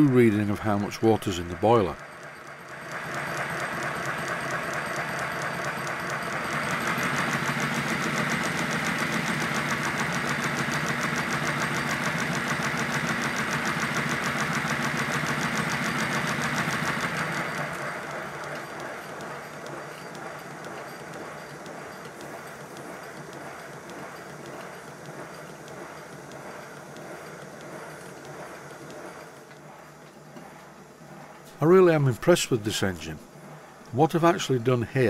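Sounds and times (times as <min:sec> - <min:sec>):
steam exhaust beats: 0:00.0 - 0:35.0.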